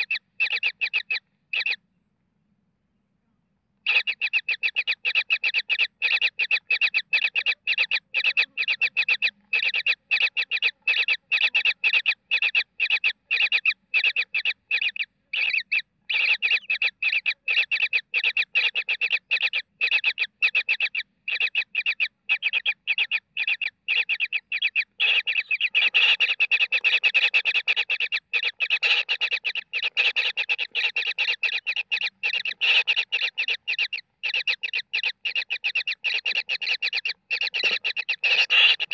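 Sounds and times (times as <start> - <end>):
baby kingfisher calling: 0.0 - 1.8, 3.8 - 38.9.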